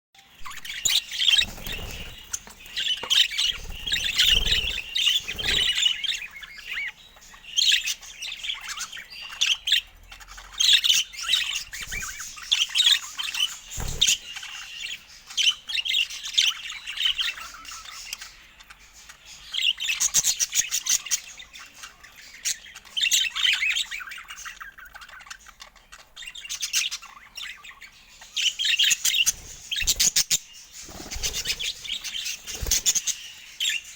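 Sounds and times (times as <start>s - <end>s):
budgerigars chattering and warbling: 0.4s - 33.9s.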